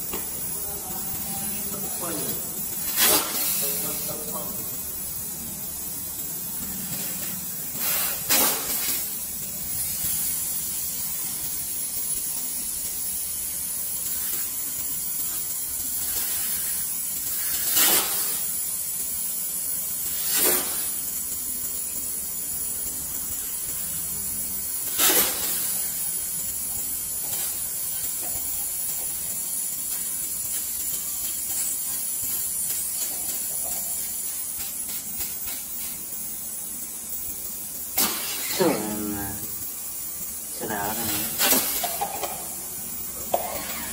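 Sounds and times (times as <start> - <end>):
pressurised gas hissing: 0.0 - 43.9.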